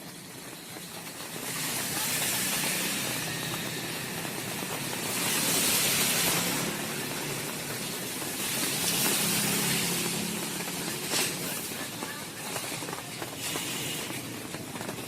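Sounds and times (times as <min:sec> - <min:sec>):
heavy rain hissing: 0:00.0 - 0:15.0
traffic on wet road: 0:00.0 - 0:15.0.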